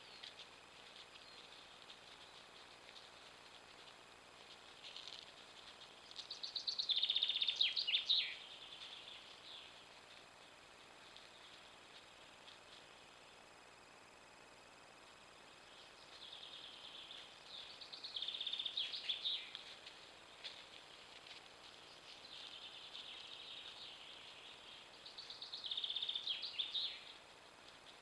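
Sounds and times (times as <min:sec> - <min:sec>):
faint microphone hiss: 0:00.0 - 0:28.0
songbird singing: 0:00.0 - 0:28.0.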